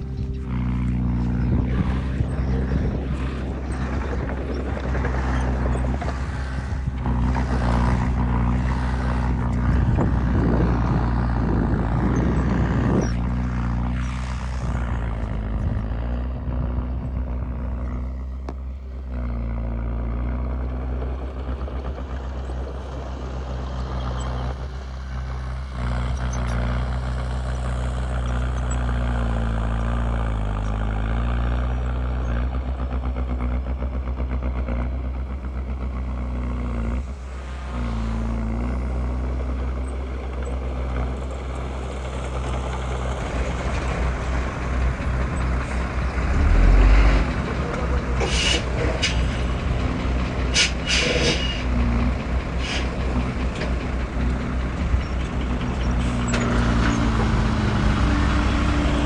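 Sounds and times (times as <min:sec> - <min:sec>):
heavy diesel engines working: 0:00.0 - 0:59.0.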